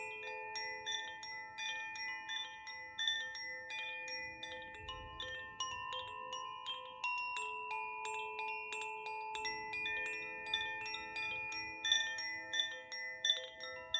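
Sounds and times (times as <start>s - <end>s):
wind chime ringing: 0.0s - 13.9s.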